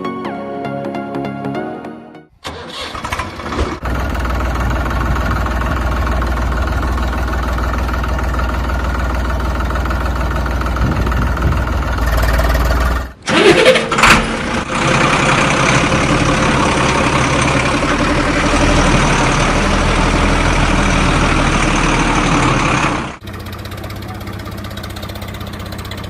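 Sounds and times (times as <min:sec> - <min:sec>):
tractor engine starting and idling: 0:02.3 - 0:26.0.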